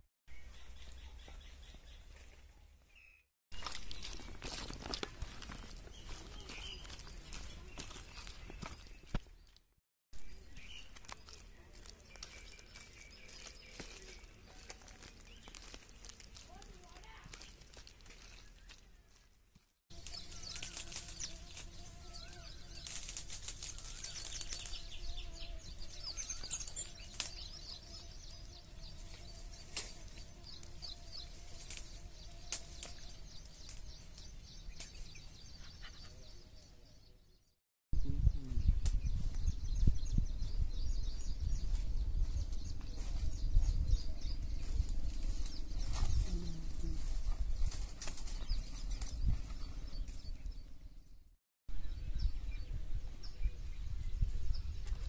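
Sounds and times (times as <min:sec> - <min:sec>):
small birds chirping: 0:00.3 - 0:09.6, 0:10.2 - 0:51.2.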